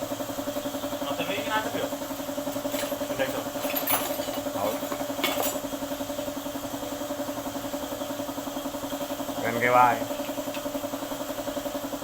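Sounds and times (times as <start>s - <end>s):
diesel engine idling: 0.0s - 3.6s, 4.4s - 12.0s.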